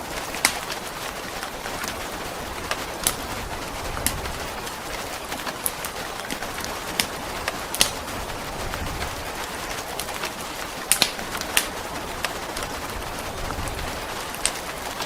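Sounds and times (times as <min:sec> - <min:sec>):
rain hissing: 0:00.0 - 0:15.0
wood fire crackling: 0:00.0 - 0:15.0.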